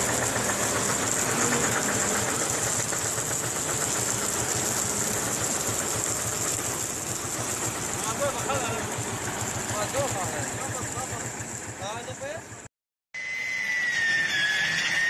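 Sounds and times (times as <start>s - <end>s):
diesel truck engine running: 0.0s - 12.7s.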